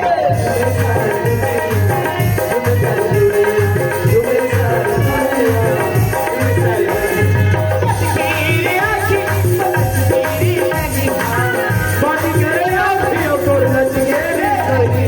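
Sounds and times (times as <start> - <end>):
hand drum beat: 0.0 - 15.0.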